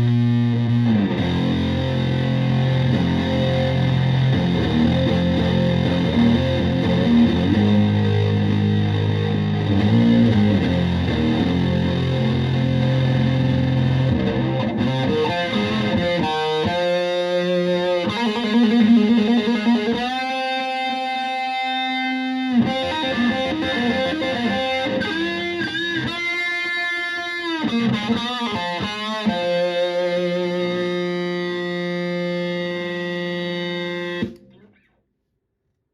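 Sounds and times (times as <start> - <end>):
fuzzed electric guitar: 0.0 - 34.7.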